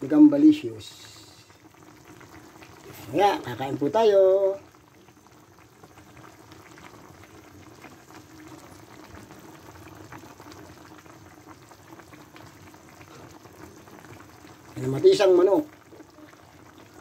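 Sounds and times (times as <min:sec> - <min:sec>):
soup bubbling in pot: 0:00.0 - 0:17.0.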